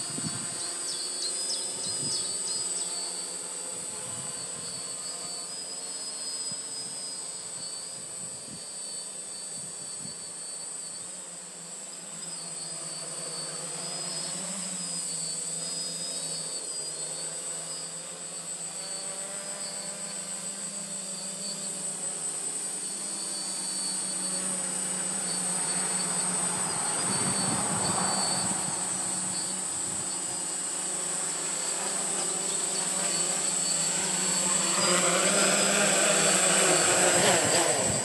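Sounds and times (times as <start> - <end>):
quadcopter buzzing in hover: 0.0 - 38.0.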